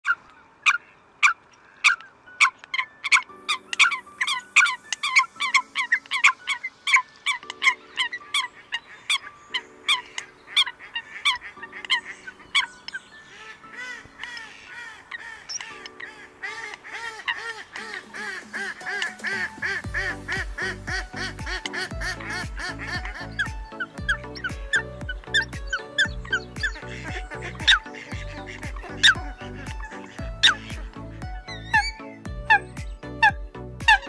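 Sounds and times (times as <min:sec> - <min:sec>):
coots calling: 0:00.0 - 0:34.0.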